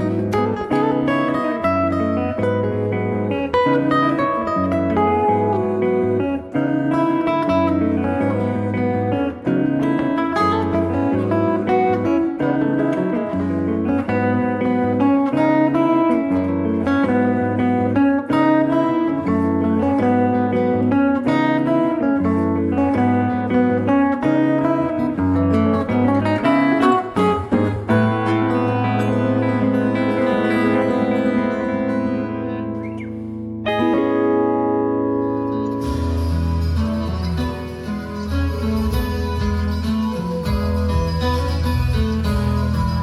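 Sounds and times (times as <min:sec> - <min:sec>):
acoustic guitar instrumental music: 0:00.0 - 0:43.0.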